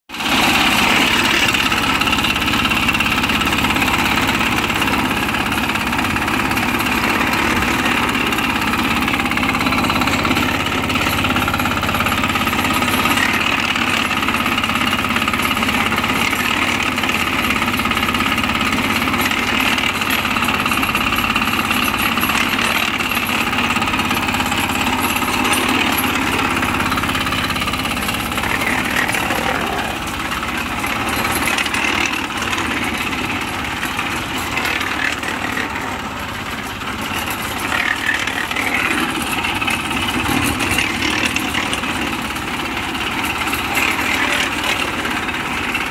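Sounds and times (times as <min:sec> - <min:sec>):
small diesel engine running: 0:00.1 - 0:45.9.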